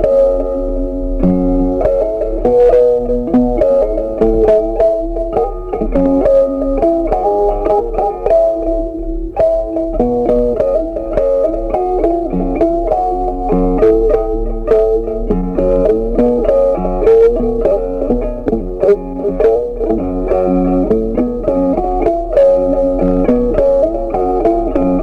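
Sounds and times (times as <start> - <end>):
bass line: 0.0 - 25.0
plucked string melody: 0.0 - 25.0.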